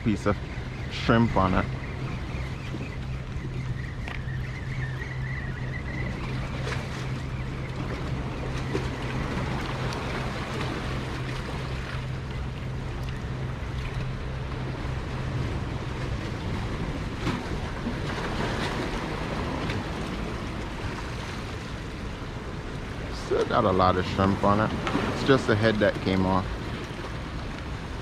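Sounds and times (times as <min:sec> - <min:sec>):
low steady hum: 0:00.0 - 0:28.0
ocean waves washing in: 0:04.4 - 0:28.0.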